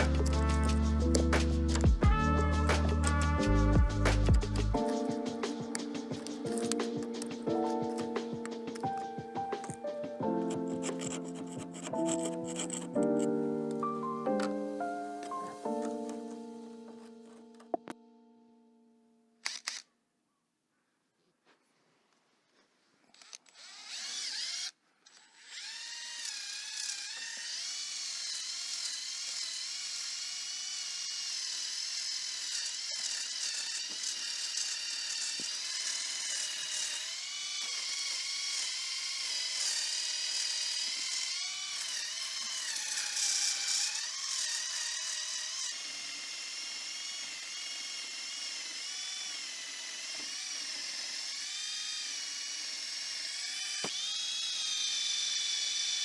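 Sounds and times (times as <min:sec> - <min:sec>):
rotary tool whining: 0:04.3 - 0:18.0, 0:23.0 - 0:56.0.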